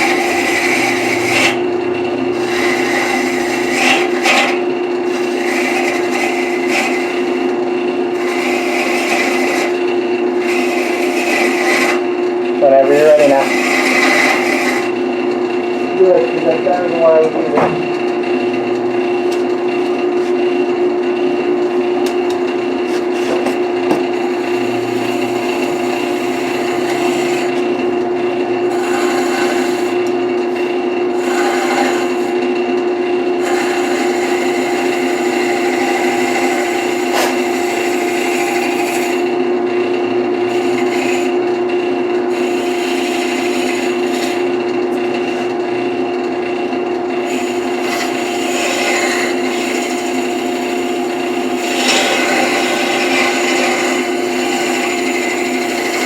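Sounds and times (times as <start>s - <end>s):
lathe motor whine: 0.0s - 56.0s
tool scraping spinning wood: 0.0s - 56.0s.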